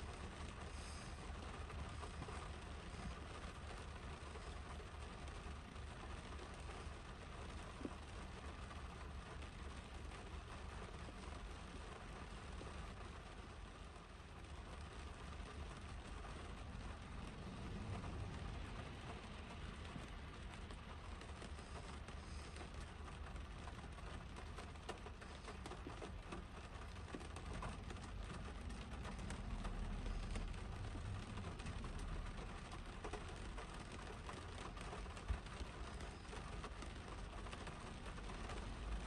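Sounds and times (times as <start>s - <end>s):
rain on a car roof: 0.0s - 39.0s.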